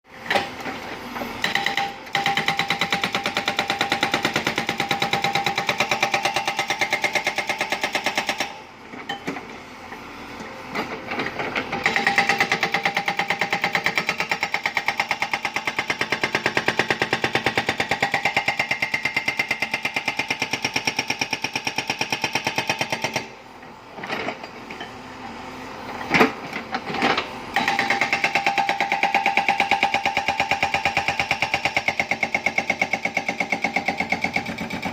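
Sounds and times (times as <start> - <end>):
hydraulic rock breaker hammering: 0.2 - 9.4, 10.8 - 23.4, 26.0 - 34.9.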